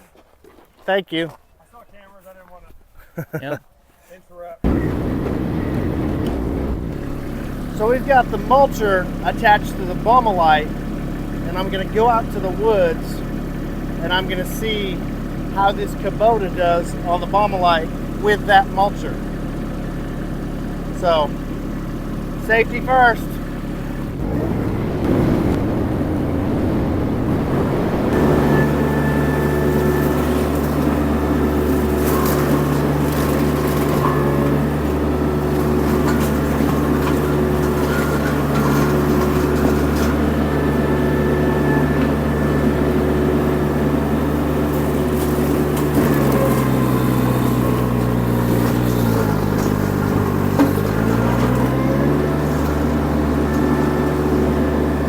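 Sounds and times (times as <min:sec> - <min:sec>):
diesel engine running at high revs: 0:04.7 - 0:55.0.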